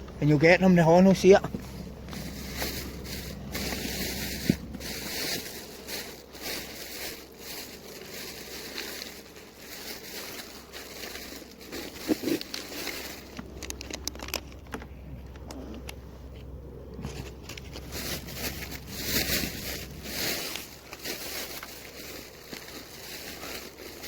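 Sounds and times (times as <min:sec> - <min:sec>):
fishing gear rustling and scraping: 0:00.8 - 0:24.0.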